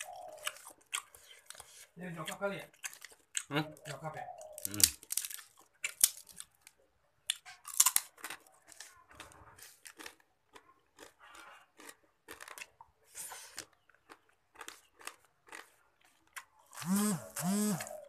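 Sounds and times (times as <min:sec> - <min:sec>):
person chewing and crunching: 0:00.0 - 0:18.0.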